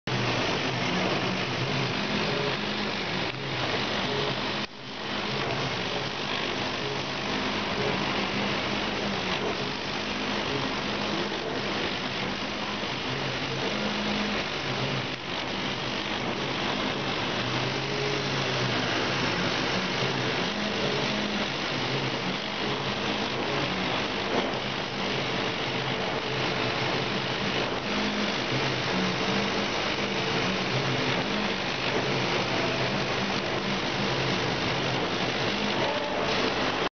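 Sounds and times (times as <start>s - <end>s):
laser cutter rushing noise: 0.1s - 36.9s.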